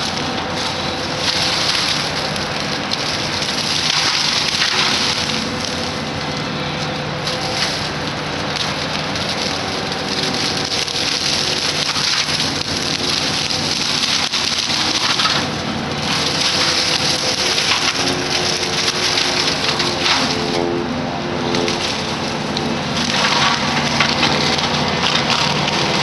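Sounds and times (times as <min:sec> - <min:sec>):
excavator engine running: 0:00.0 - 0:26.0
mulching mower grinding brush: 0:00.0 - 0:26.0.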